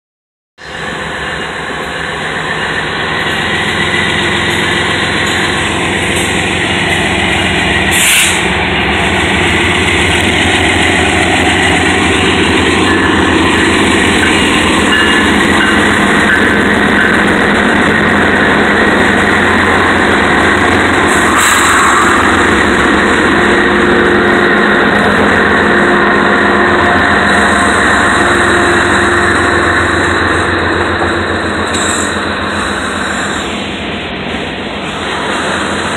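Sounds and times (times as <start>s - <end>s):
diesel locomotive engines: 0.6s - 35.9s
freight cars rolling on rails: 0.6s - 35.9s.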